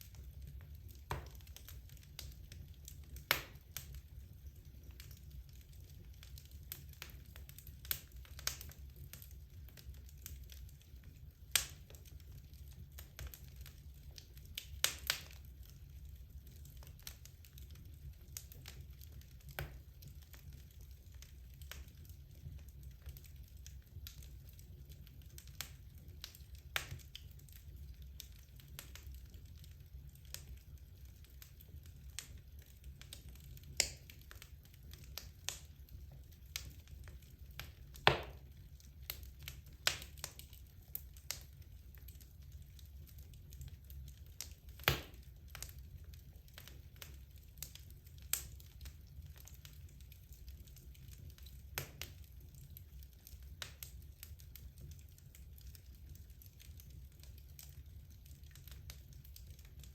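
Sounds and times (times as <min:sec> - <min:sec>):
logs burning and crackling: 0:00.0 - 0:59.9.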